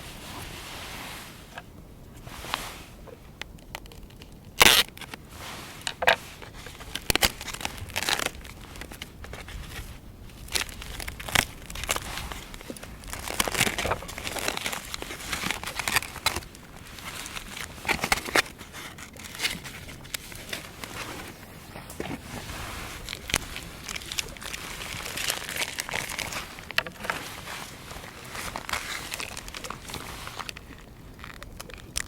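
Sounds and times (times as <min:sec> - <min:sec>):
crinkling and rustling: 0:00.0 - 0:32.0.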